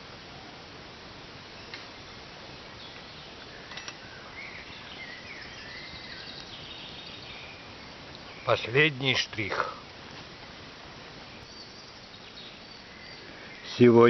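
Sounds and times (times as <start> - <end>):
background hiss: 0.0 - 14.0
birds chirping: 1.4 - 14.0.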